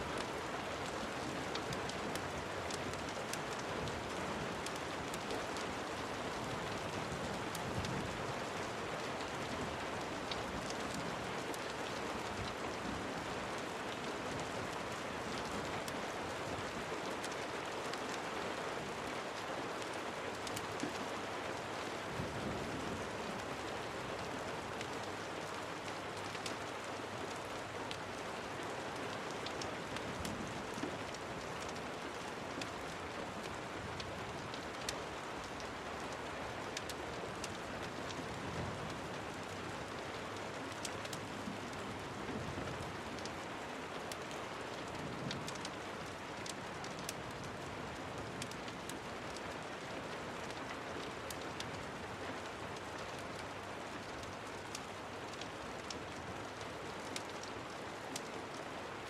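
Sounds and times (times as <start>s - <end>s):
raindrops ticking and tapping: 0.0s - 59.0s
steady rain: 0.0s - 59.0s.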